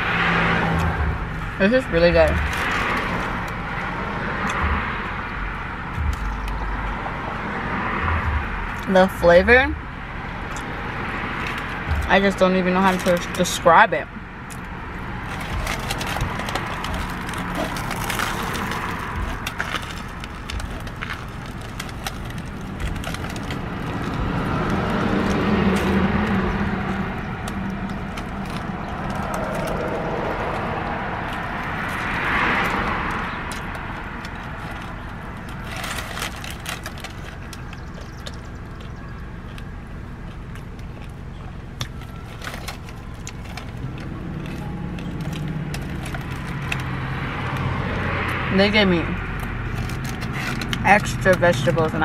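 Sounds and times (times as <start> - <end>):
chewing crusty bread: 2.3 - 7.0, 10.3 - 13.6, 14.2 - 48.6, 49.2 - 52.0.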